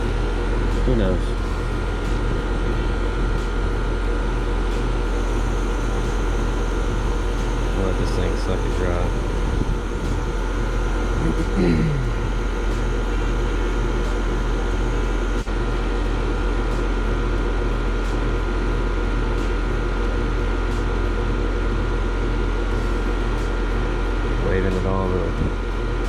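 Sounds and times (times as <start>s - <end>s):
compressor and fan humming: 0.0s - 26.0s.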